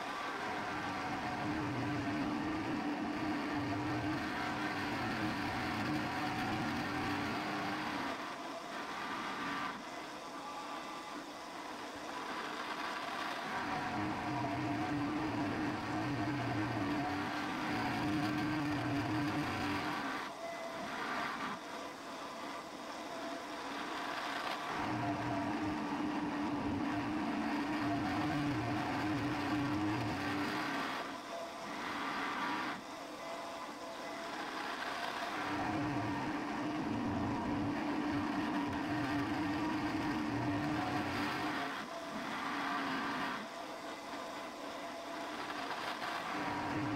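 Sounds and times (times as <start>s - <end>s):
milling machine hum: 0.1s - 12.7s, 13.4s - 46.9s.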